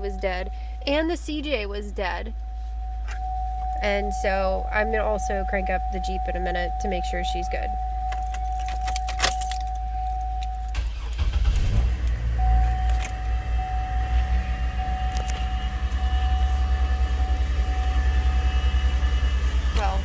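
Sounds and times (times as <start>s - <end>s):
car engine cranking and idling: 0.0s - 20.0s
car warning chime: 0.0s - 20.0s
keys clicking in ignition: 0.2s - 20.0s.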